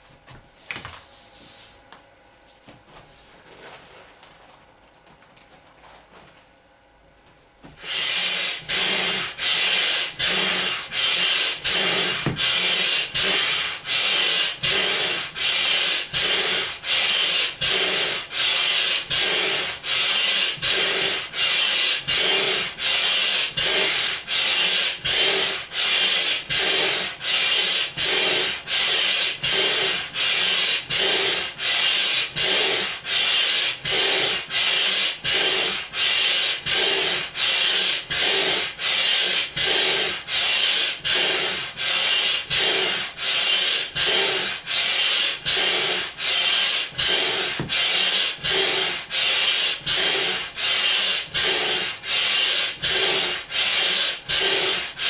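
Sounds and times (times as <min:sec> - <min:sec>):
hand air pump hissing: 0:07.8 - 0:55.0.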